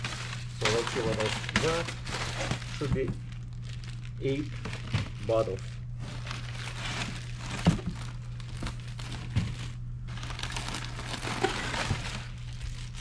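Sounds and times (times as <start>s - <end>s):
packing paper crinkling: 0.0s - 13.0s.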